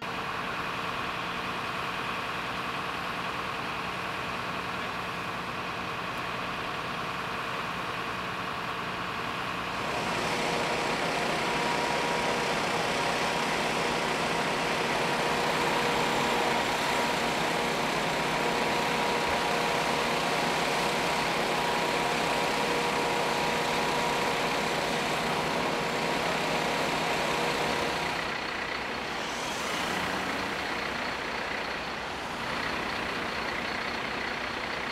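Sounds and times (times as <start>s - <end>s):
fire engines droning: 0.0s - 34.9s.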